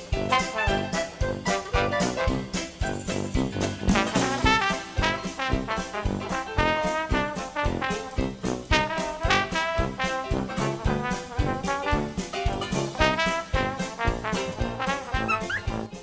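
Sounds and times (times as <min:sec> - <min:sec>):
upbeat swing jazz with brass: 0:00.0 - 0:16.0.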